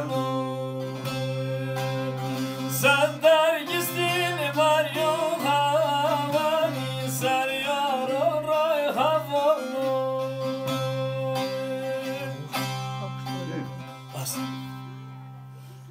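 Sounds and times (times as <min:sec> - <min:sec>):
man singing folk song: 0:00.0 - 0:15.0
long-necked lute plucked: 0:00.0 - 0:15.8.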